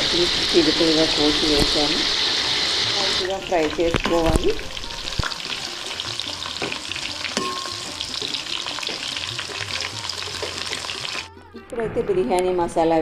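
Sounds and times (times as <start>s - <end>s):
onions frying in oil: 0.0s - 11.3s.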